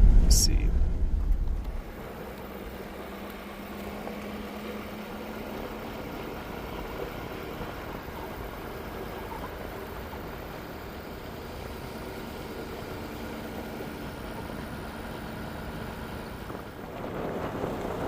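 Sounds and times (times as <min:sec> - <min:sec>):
pickup truck engine and road noise: 0:00.0 - 0:18.0.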